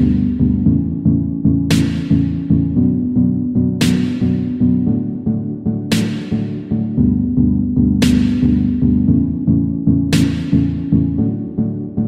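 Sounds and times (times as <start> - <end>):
electronic music with pulsing beat: 0.0 - 12.0.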